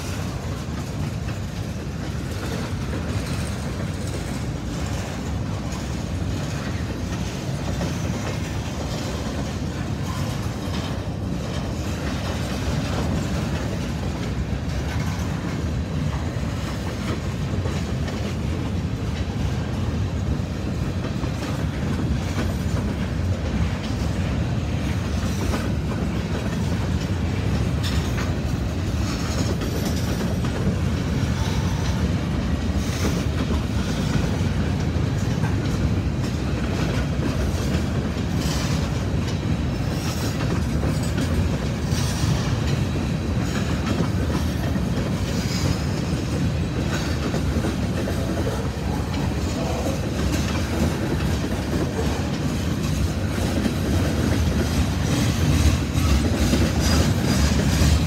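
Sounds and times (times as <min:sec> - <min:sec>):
freight train rumbling: 0:00.0 - 0:58.0
wheels clacking over rail joints: 0:00.0 - 0:58.0.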